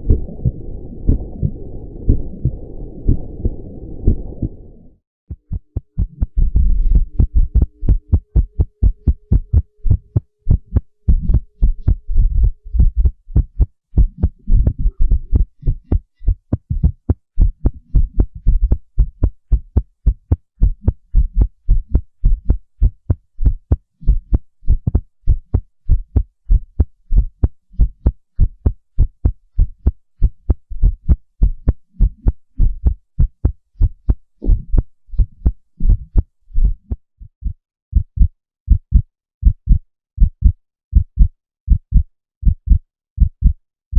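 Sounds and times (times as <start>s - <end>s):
fast irregular heartbeat: 0.0s - 43.6s.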